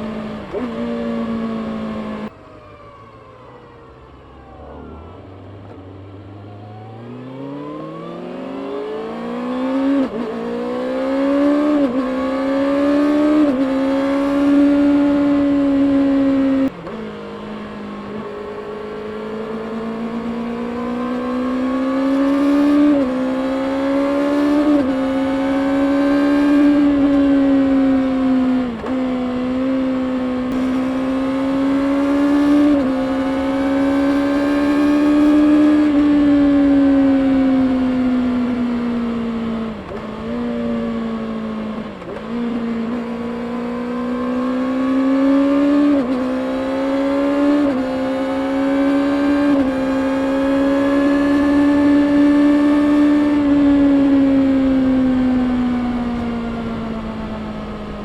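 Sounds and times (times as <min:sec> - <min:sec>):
motorcycle engine revving: 0:00.0 - 0:02.3, 0:04.8 - 0:58.0.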